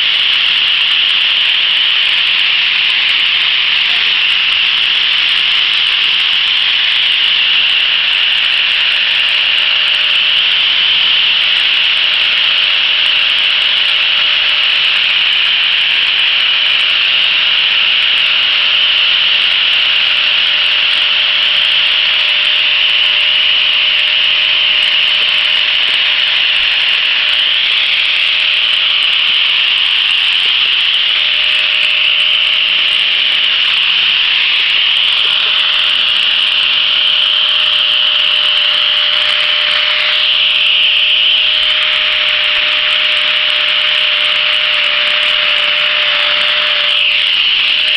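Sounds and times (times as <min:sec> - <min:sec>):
motor whine: 0:00.0 - 0:47.9
wood being sanded: 0:00.0 - 0:47.9.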